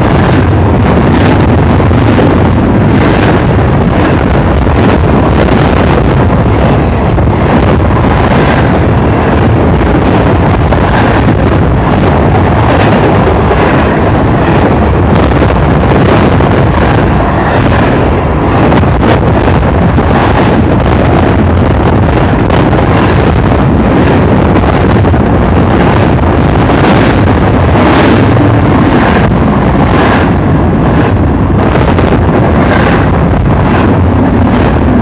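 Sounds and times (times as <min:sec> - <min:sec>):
train wheels rumbling on rails: 0:00.0 - 0:35.0
wind buffeting microphone: 0:00.0 - 0:35.0.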